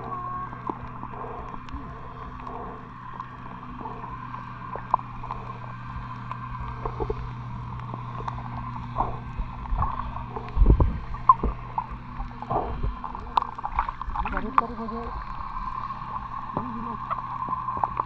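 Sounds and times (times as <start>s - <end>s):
faint clicks: 0.0s - 14.6s
heavy low bumps: 0.0s - 15.4s
low underwater hum: 0.0s - 18.0s.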